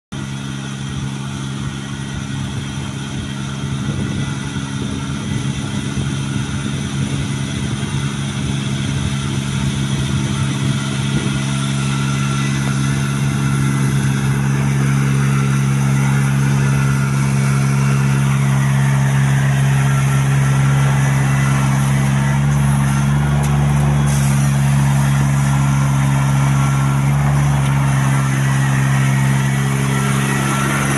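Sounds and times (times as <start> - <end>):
small engine running: 0.1 - 30.9.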